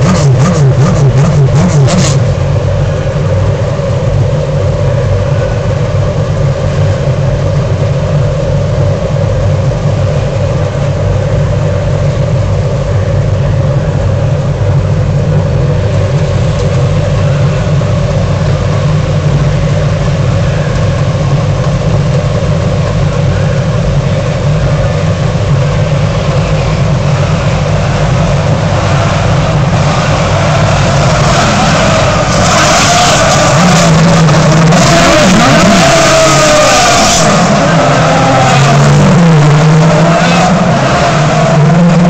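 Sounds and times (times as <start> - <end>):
race car engines idling: 0.0 - 42.0.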